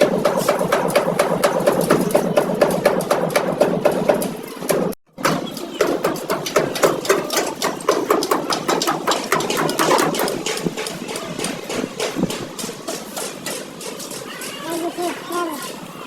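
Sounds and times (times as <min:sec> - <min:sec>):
rapid irregular knocking: 0:00.0 - 0:15.9.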